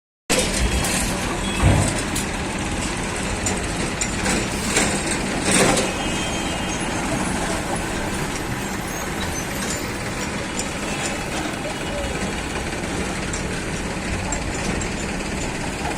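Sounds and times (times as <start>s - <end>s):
diesel engine running: 0.4s - 15.9s.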